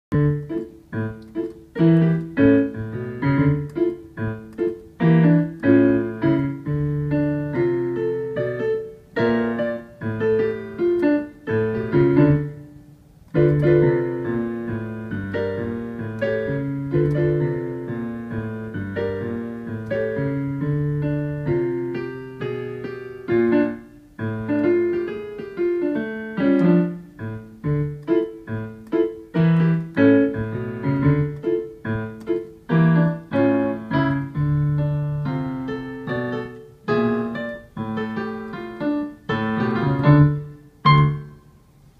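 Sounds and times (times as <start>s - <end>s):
jazz piano piece: 0.1s - 41.9s.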